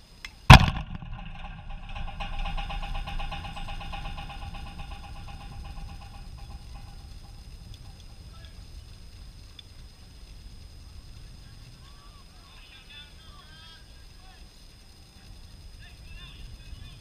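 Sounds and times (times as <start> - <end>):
fence buzzing and rattling: 0.5 - 17.0.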